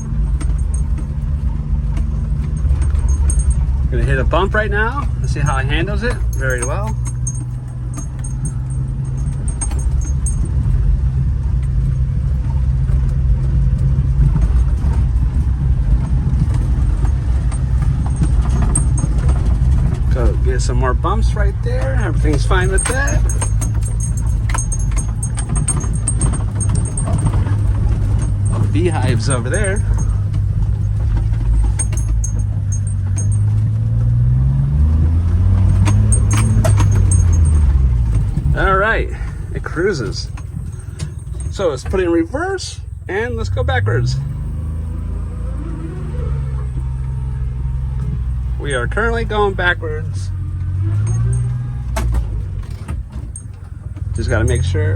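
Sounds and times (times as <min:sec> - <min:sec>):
small truck engine running: 0:00.0 - 0:54.9
truck rattles and clicks: 0:00.0 - 0:54.9.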